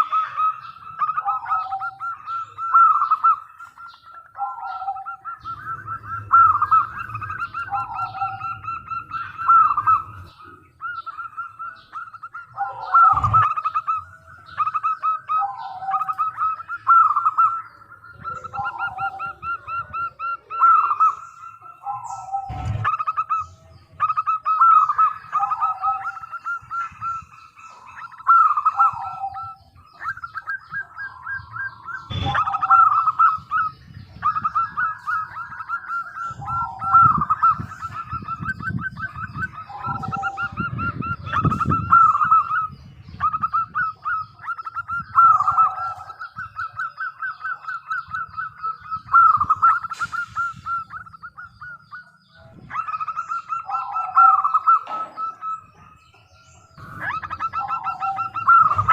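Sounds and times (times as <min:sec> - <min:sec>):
dove cooing: 0:00.0 - 0:58.9.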